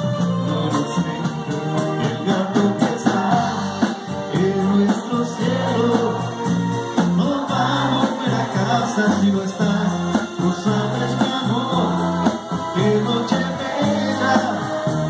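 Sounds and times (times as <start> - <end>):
live band playing ballad: 0.0 - 15.0
lead singer singing: 0.1 - 15.0.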